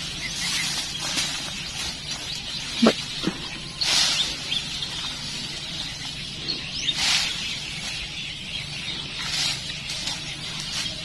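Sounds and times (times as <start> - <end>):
faint bird chirps: 0.0 - 11.0
leaves and branches rustling: 0.0 - 11.0.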